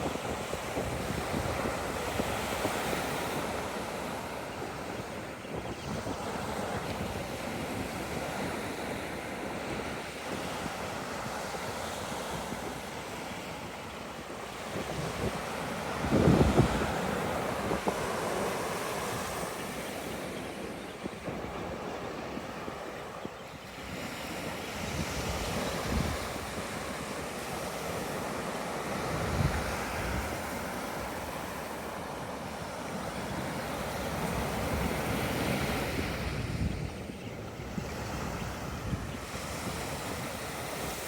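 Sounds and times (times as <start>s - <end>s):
ocean surf washing: 0.0s - 41.0s
wind buffeting microphone: 0.0s - 41.0s.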